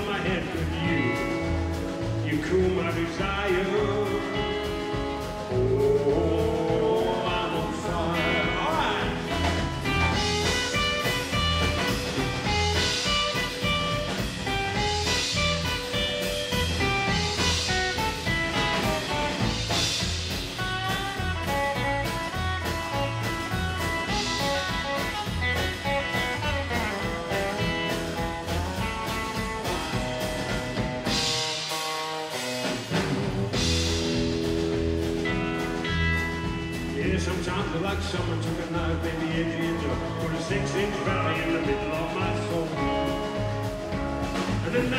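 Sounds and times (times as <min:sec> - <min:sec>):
upright bass: 0:00.0 - 0:31.5, 0:32.4 - 0:44.9
drums: 0:00.0 - 0:44.9
melodic electric guitar lead: 0:03.2 - 0:37.8, 0:38.9 - 0:44.9.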